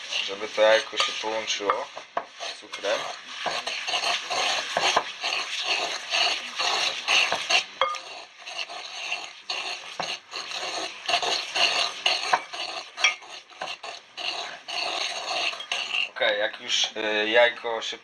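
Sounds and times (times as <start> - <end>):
wooden pestle scraping ceramic bowl: 0.0 - 17.1.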